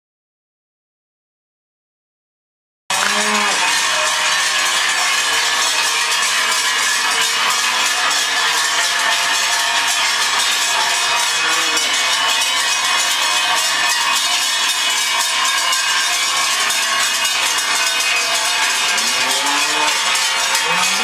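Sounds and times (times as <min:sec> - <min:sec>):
cowbells clanging: 0:02.9 - 0:21.0.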